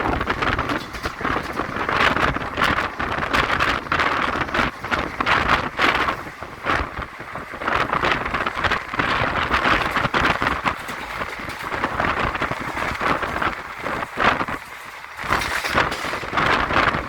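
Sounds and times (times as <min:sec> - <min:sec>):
passenger train running: 0:00.0 - 0:17.0
wind buffeting microphone: 0:00.0 - 0:17.0.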